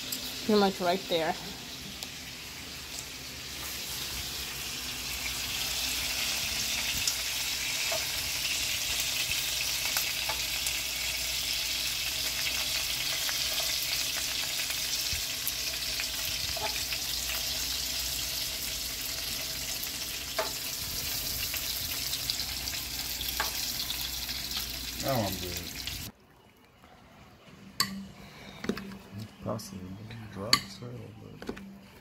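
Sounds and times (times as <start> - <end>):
steak sizzling in a pan: 0.0 - 26.1.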